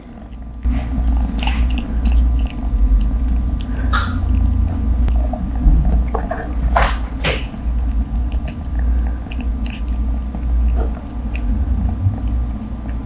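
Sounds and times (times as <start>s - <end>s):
cat chewing: 0.0s - 13.0s.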